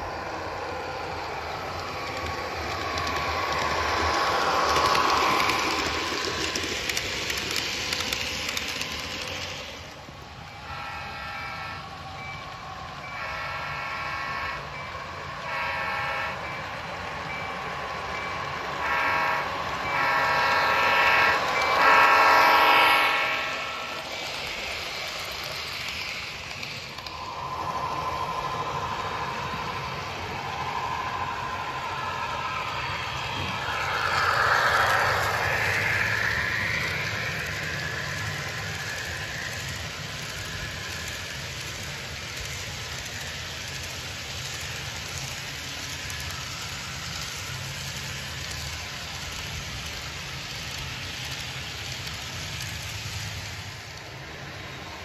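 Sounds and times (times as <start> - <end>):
model train wheels and motor humming: 0.0 - 55.0.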